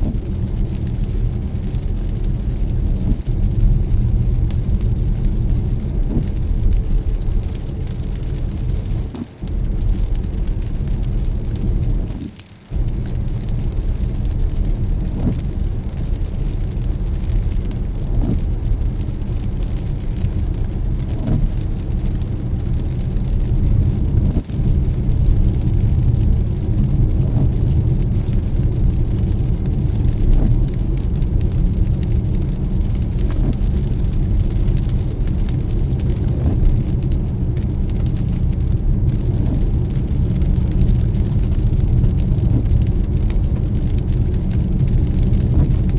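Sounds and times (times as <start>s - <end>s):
car road and engine rumble: 0.0s - 45.9s
rain: 0.0s - 45.9s.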